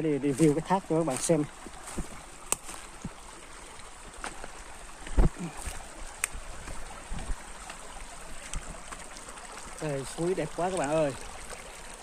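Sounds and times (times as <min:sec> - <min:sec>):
stream trickling over rocks: 0:00.0 - 0:12.0.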